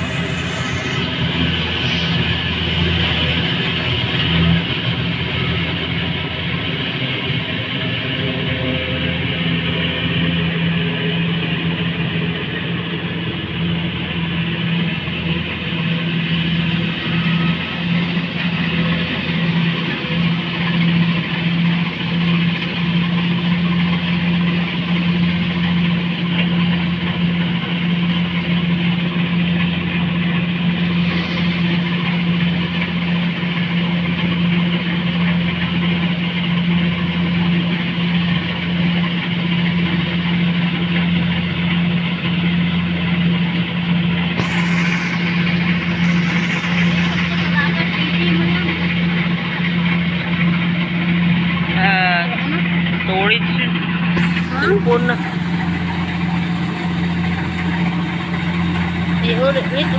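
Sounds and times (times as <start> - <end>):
harvester engine humming: 0.0 - 59.9.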